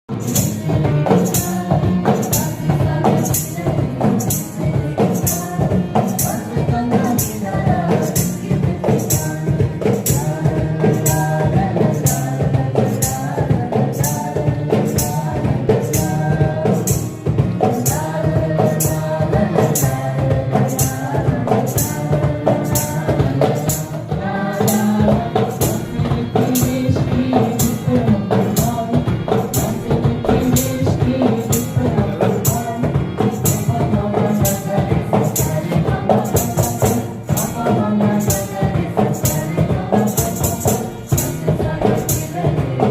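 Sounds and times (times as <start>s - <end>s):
jingling percussion: 0.1s - 42.9s
music melody with steady beat: 0.1s - 42.9s.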